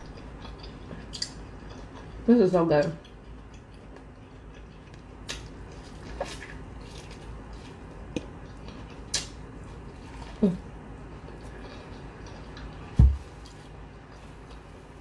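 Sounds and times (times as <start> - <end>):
chewing corn on the cob: 0.0 - 14.8.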